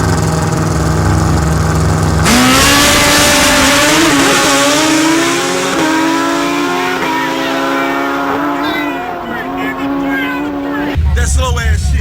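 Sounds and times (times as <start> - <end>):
racing engine revving: 0.0 - 12.0.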